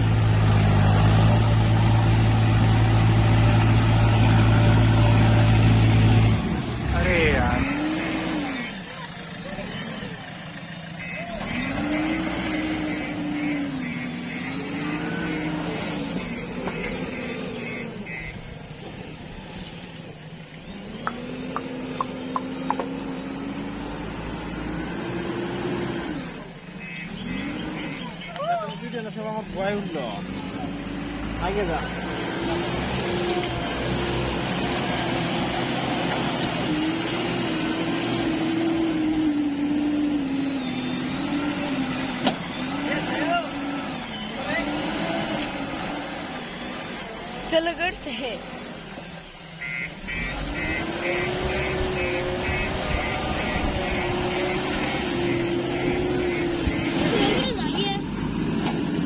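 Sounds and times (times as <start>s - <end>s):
heavy diesel engine working hard: 0.0s - 19.3s, 29.3s - 59.0s.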